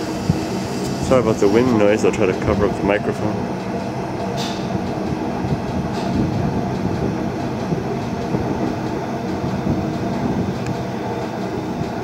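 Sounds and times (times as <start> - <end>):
train rolling slowly: 0.0 - 12.0.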